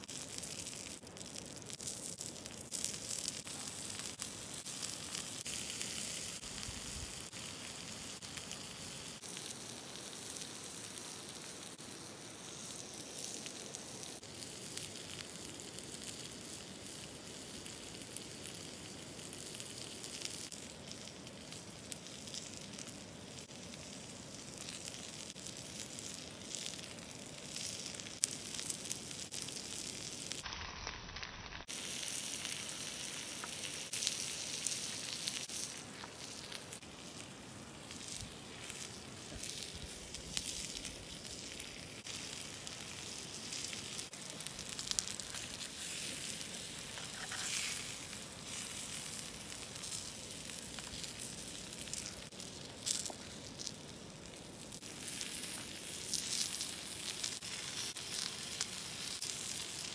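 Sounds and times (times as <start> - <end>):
liver sizzling on hot stone: 0.0 - 59.9.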